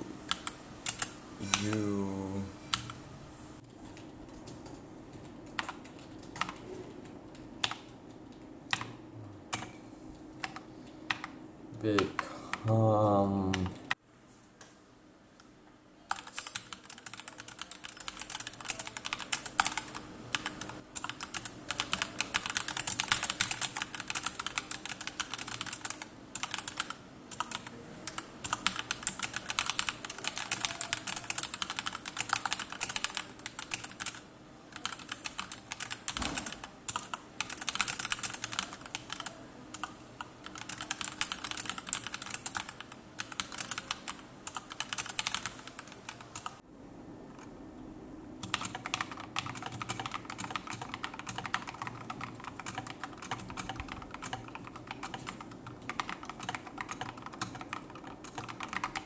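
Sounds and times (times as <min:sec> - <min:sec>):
mechanical keyboard typing: 0:00.3 - 0:01.9, 0:04.3 - 0:07.0, 0:07.6 - 0:09.8, 0:16.1 - 0:46.6, 0:48.4 - 0:59.0.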